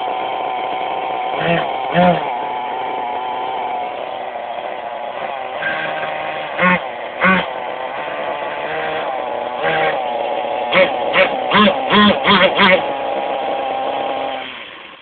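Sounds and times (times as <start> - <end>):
engine throttle blips: 0.0 - 15.0
model car engine idling: 0.0 - 15.0.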